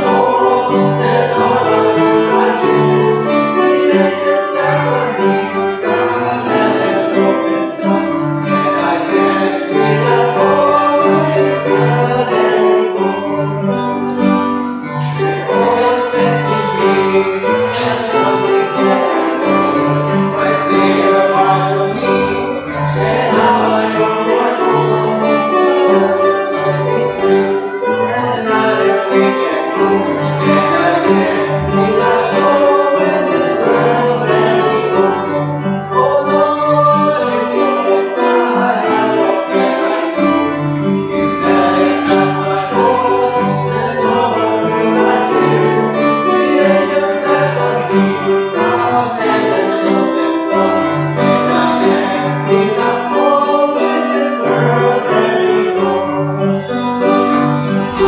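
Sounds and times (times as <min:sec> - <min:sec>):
instrumental accompaniment: 0:00.0 - 0:58.0
two men singing in duet: 0:00.0 - 0:58.0.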